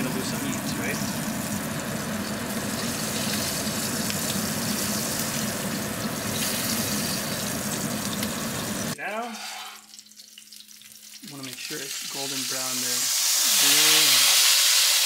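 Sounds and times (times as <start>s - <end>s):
fish sizzling in skillet: 0.0s - 15.0s.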